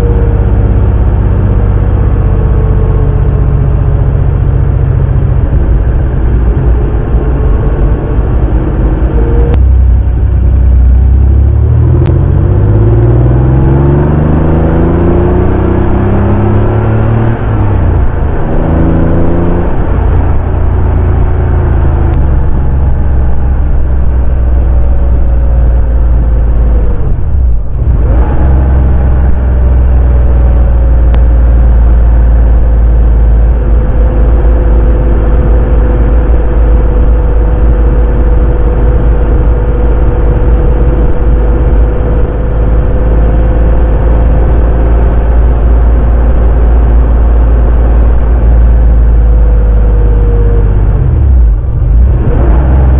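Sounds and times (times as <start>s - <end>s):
car engine rumbling: 0.0s - 52.9s.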